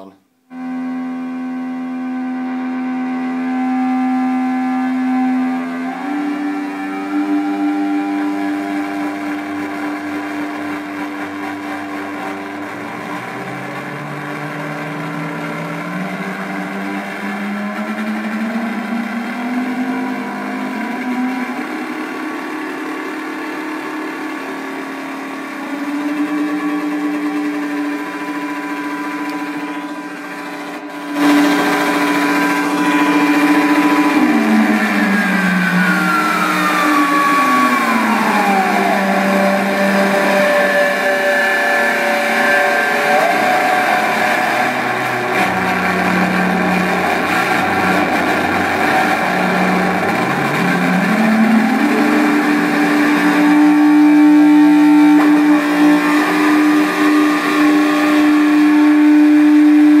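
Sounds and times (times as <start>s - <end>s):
synthesizer drone: 0.0s - 60.0s.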